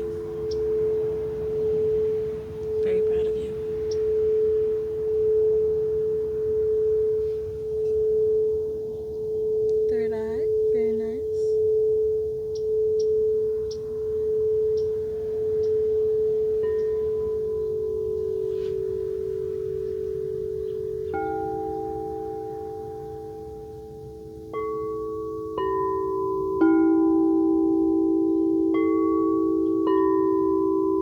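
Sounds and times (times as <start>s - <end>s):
singing bowl steady tone: 0.0s - 31.0s
singing bowls struck: 0.0s - 31.0s.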